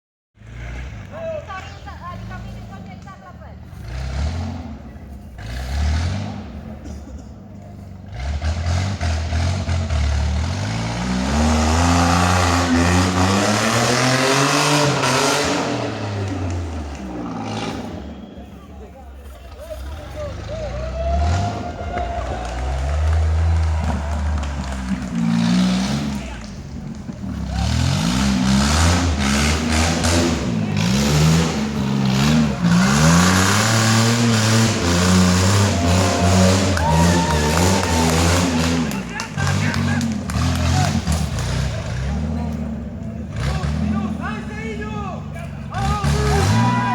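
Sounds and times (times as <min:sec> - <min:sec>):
off-road vehicle engine revving: 0:00.4 - 0:18.6, 0:19.2 - 0:46.9.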